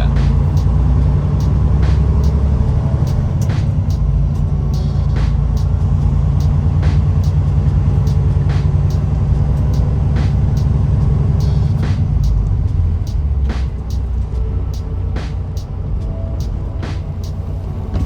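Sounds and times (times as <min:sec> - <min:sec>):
sharp irregular clicks: 0:00.0 - 0:14.9
truck engine and road rumble: 0:00.0 - 0:18.0.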